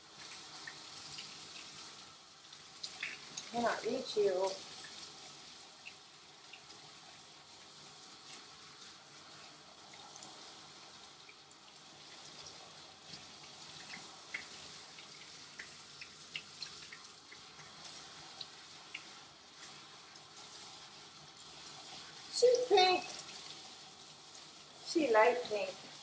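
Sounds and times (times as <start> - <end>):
small splashes and drips: 0.0 - 26.0
water spraying from sprayer: 0.0 - 26.0.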